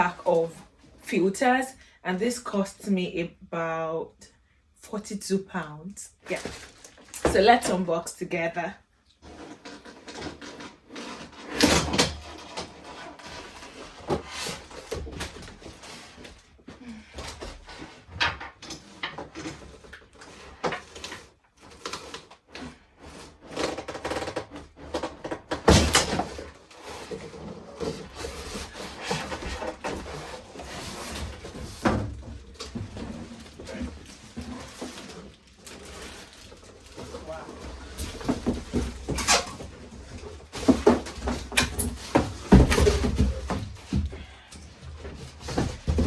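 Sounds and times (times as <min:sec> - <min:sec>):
packaging rustling and scraping: 0:06.2 - 0:07.2, 0:09.2 - 0:46.0.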